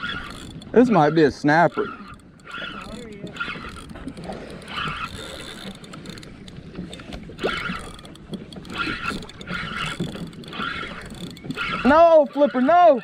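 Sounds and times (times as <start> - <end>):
water sloshing against kayak hull: 0.0 - 13.0.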